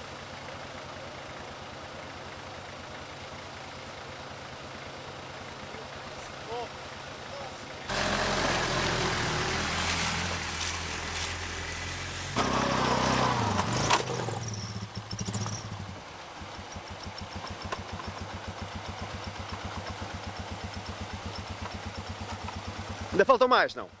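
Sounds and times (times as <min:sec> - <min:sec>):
off-road vehicle engine: 0:00.0 - 0:24.0
quad bike engine chugging: 0:00.0 - 0:24.0.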